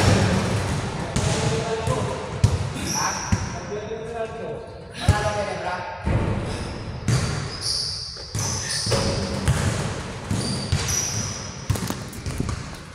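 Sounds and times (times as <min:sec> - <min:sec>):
basketball bouncing on indoor court: 0:00.0 - 0:03.6, 0:06.0 - 0:12.9.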